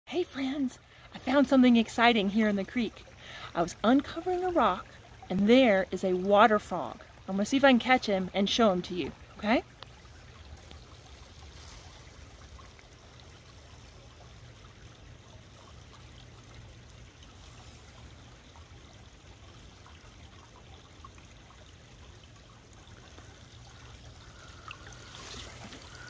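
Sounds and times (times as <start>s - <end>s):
creek water trickling: 0.1s - 26.0s.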